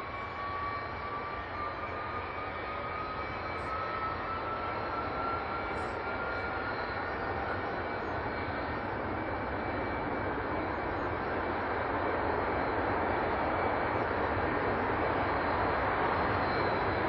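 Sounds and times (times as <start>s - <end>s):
jet engine running with whine: 0.0s - 17.0s.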